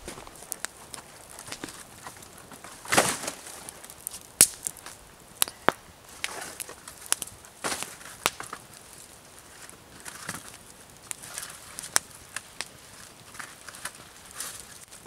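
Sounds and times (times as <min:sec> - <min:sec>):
birch bark crackling and rustling: 0:00.0 - 0:15.0.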